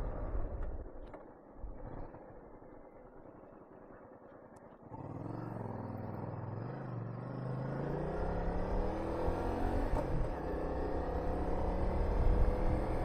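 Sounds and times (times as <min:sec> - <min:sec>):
motorcycle engine accelerating: 0:01.7 - 0:13.0.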